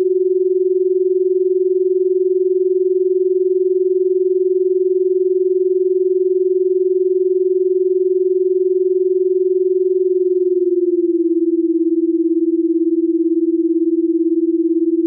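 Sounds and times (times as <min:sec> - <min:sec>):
pulsing electronic sine tone: 0:00.0 - 0:15.0.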